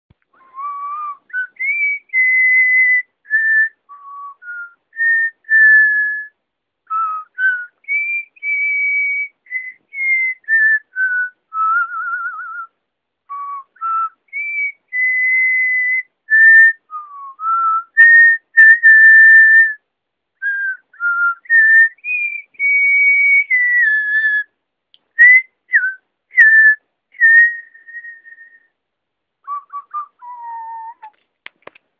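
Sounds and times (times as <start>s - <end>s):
person whistling a tune: 0.3s - 12.7s, 13.3s - 19.8s, 20.4s - 24.5s, 25.1s - 28.8s, 29.4s - 31.1s.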